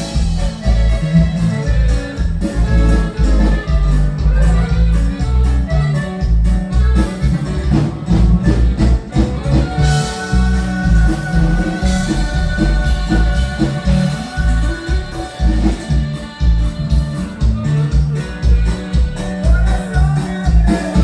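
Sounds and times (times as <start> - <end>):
band music with bass beat: 0.0 - 21.0
melody instrument long notes: 0.0 - 21.0.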